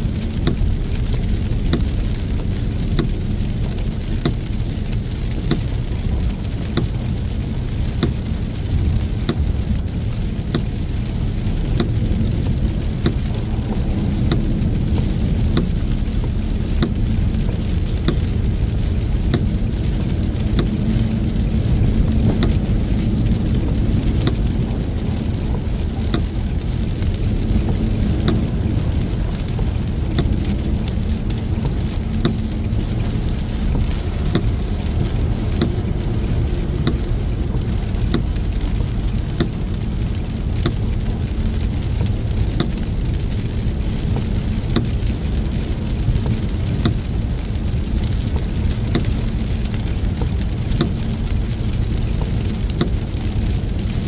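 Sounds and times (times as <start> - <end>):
heavy rain on a car: 0.0 - 54.0
road and engine rumble: 0.0 - 54.0
sharp taps of raindrops: 0.0 - 54.0.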